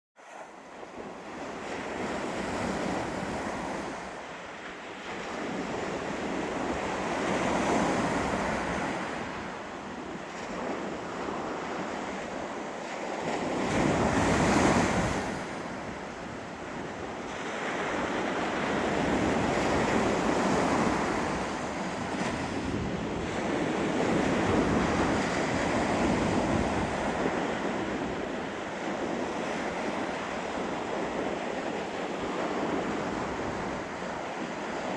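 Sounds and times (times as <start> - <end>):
wind buffeting microphone: 5.0 - 34.9.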